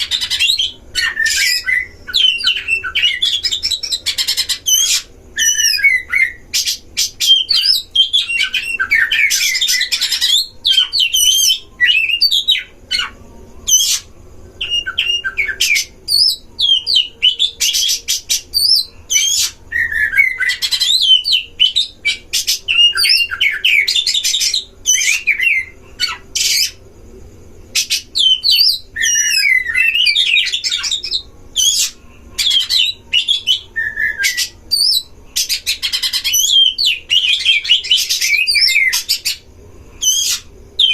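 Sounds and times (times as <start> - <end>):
birds singing whistles and chatter: 0.0 - 26.8, 27.7 - 40.9.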